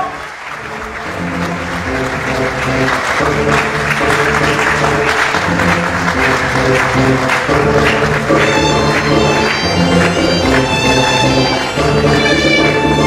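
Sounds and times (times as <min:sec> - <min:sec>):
audience applause: 0:00.0 - 0:13.0
music with long held notes: 0:00.5 - 0:13.0.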